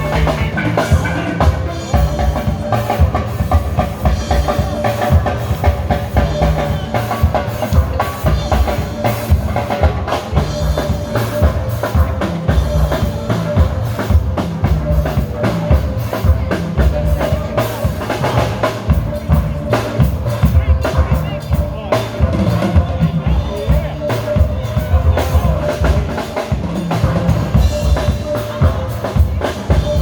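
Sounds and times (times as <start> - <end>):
drums keeping a steady beat: 0.0 - 30.0.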